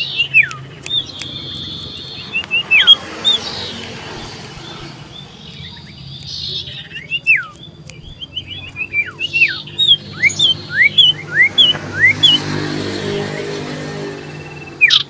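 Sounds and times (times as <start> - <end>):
bird whistling notes: 0.0 - 15.0.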